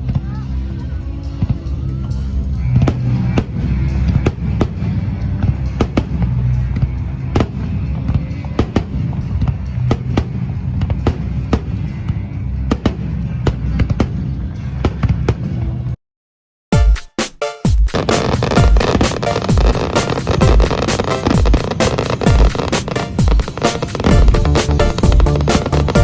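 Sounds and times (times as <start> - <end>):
fireworks bangs and crackles: 2.8 - 15.8, 17.9 - 26.0.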